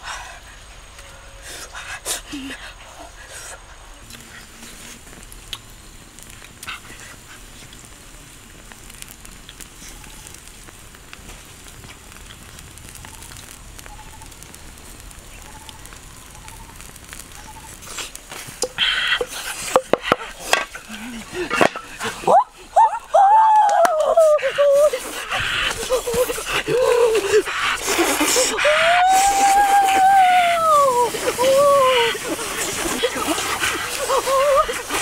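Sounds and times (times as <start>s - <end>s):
chicken sizzling over fire: 0.4s - 35.0s.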